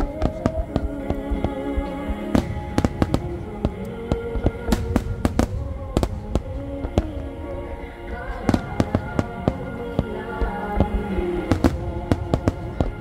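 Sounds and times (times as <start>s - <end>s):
firework shells bursting: 0.0s - 13.0s
music with long held notes: 0.0s - 13.0s.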